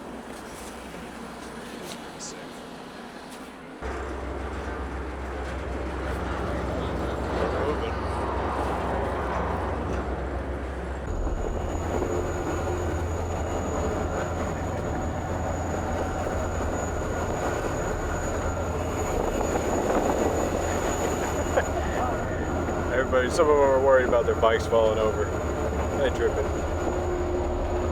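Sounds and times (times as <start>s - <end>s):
ferry rumble and clatter: 3.8s - 27.9s.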